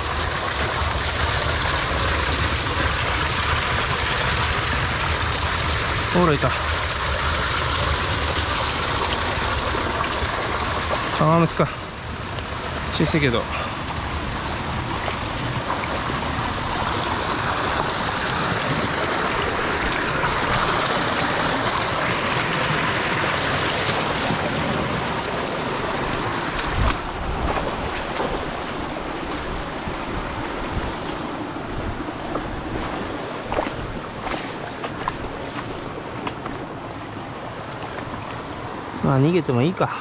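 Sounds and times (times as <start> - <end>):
water rushing in a stream: 0.0 - 40.0.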